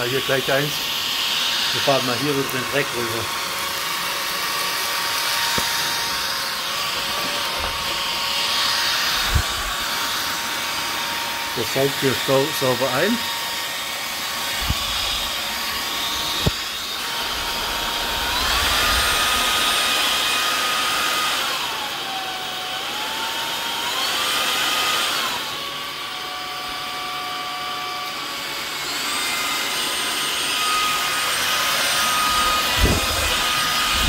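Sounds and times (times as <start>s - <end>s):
stick vacuum motor whine: 0.0s - 34.0s.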